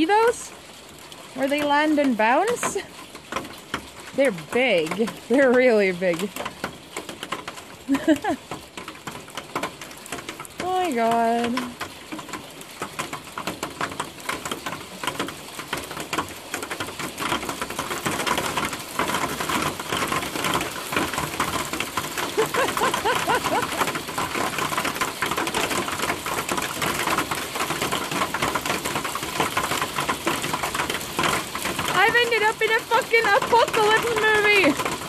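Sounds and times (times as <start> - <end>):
hailstones clattering: 0.0 - 35.0.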